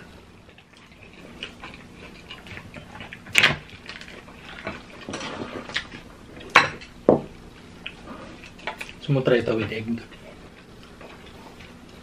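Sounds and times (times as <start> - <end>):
chewing: 0.3 - 6.9, 7.6 - 12.0.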